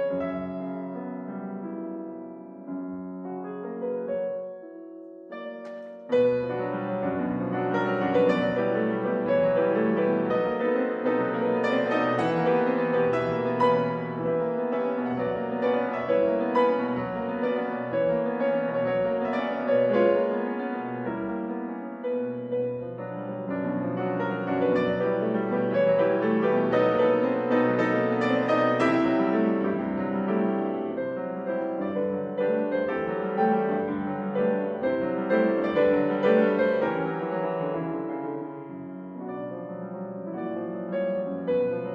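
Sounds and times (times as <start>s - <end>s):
background piano music: 0.0s - 41.9s.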